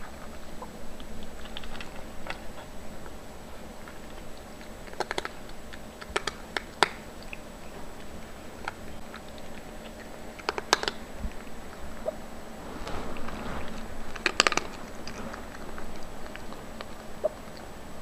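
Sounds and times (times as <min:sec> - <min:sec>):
cat crunching dry kibble: 0:00.0 - 0:18.0.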